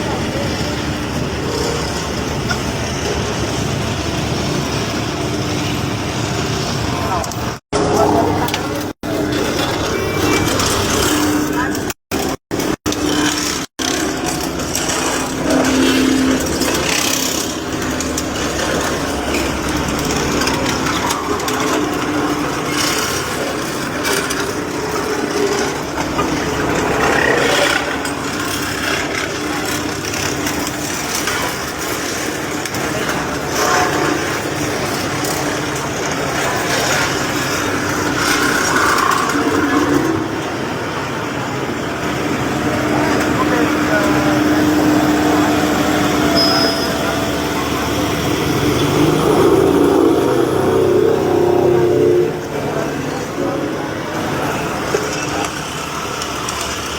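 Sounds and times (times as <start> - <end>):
engine humming: 0.0 - 56.9
mechanical noise: 0.0 - 56.9.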